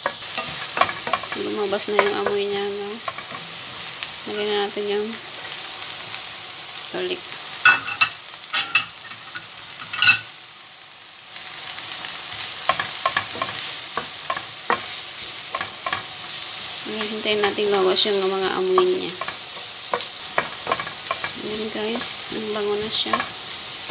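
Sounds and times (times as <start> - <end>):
onion sizzling in pan: 0.0 - 23.9.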